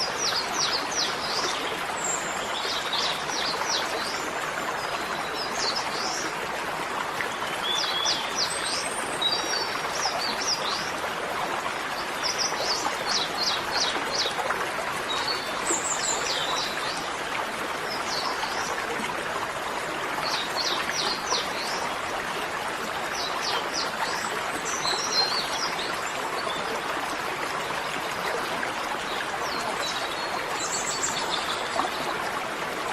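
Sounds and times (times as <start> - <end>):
flowing water rushing: 0.0 - 32.9.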